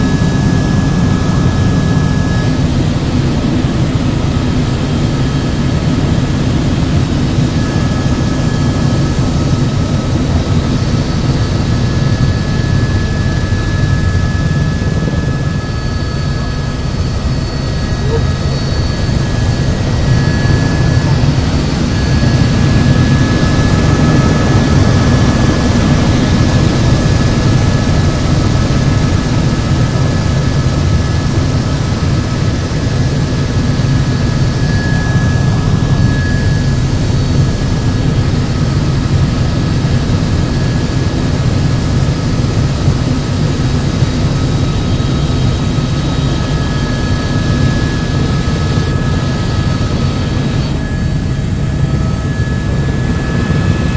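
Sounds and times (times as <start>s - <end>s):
helicopter rotor and engine: 0.0s - 53.9s
high whine: 0.0s - 53.9s.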